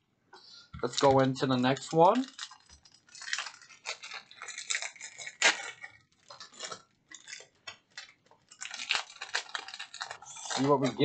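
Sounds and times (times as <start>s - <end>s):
foil wrapper crinkling: 0.8s - 11.0s.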